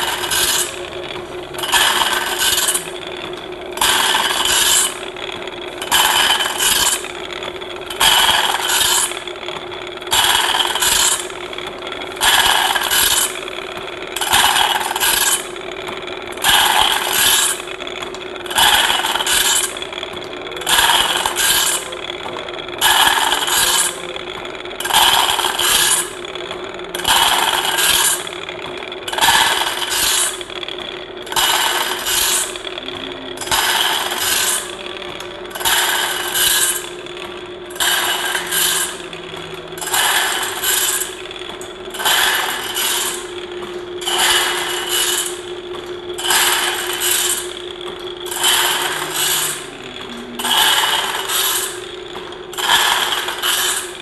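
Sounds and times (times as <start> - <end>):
grinding wheel grinding steel teeth: 0.0 - 54.0
steady machine hum: 0.0 - 54.0.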